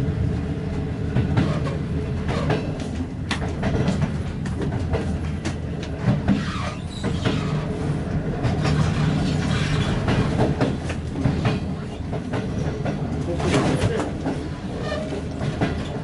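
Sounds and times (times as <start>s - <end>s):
train low rumble: 0.0s - 16.0s
wheels clicking over rail joints: 1.2s - 16.0s.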